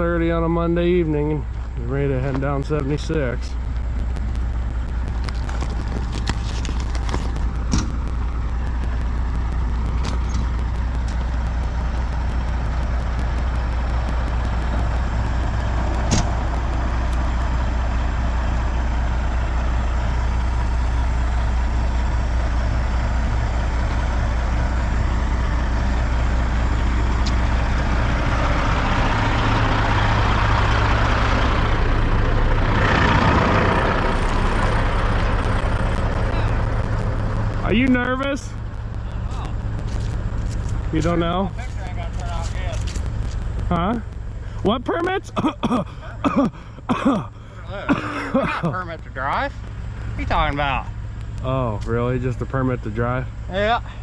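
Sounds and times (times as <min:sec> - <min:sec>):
road noise: 0:00.0 - 0:54.0
truck engine running: 0:00.0 - 0:54.0.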